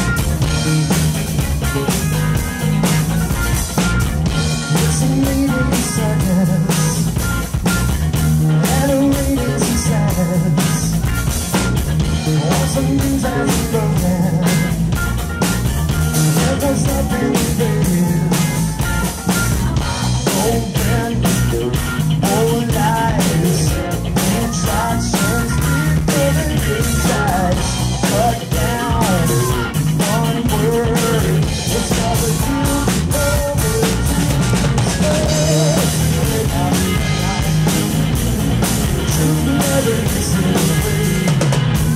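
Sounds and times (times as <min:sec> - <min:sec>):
drum kit beat: 0:00.0 - 0:41.9
electric guitar: 0:00.0 - 0:41.9
man singing: 0:04.6 - 0:07.2, 0:08.5 - 0:11.1, 0:12.0 - 0:14.9, 0:15.9 - 0:41.8.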